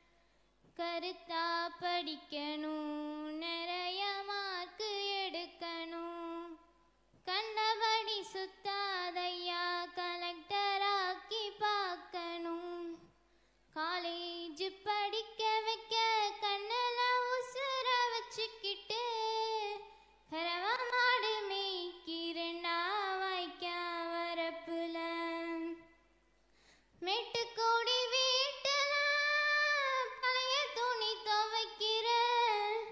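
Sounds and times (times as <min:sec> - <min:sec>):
girl singing folk song: 0:00.0 - 0:32.9.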